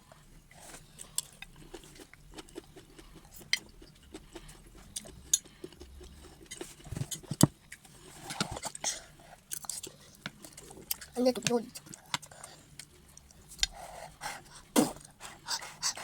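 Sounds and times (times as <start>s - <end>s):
soft chewing and mouth noises: 0.0s - 16.0s.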